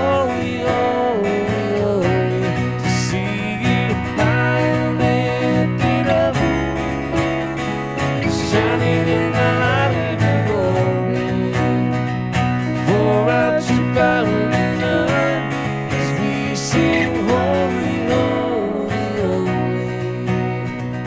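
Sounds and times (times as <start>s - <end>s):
strummed acoustic guitar: 0.0s - 21.0s
worship band music: 0.0s - 21.0s.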